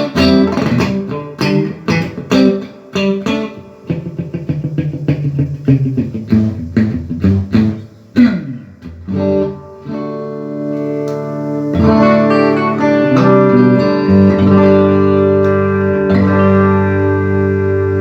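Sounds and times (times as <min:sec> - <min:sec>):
electric guitar ringing chords: 0:00.0 - 0:18.0.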